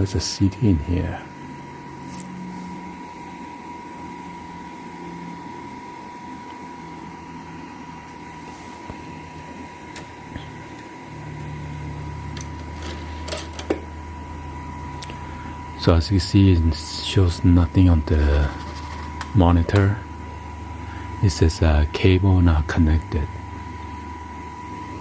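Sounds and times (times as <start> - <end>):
computer fans humming: 0.0 - 25.0
constant high whine: 0.0 - 25.0.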